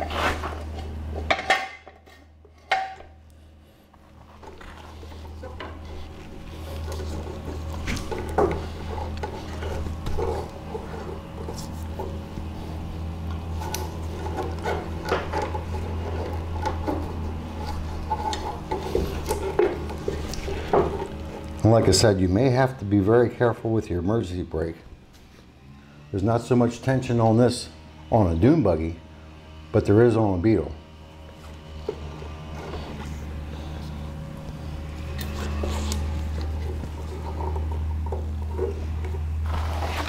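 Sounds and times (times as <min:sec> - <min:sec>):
low hum: 0:00.0 - 0:40.0.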